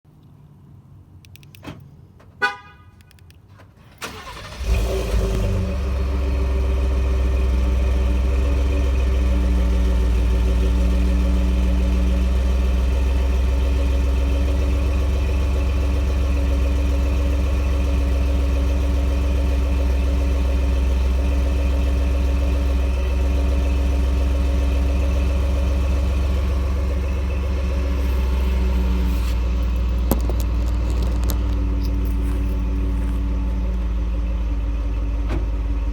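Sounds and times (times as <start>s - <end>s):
truck engine starting and idling: 3.2s - 35.9s.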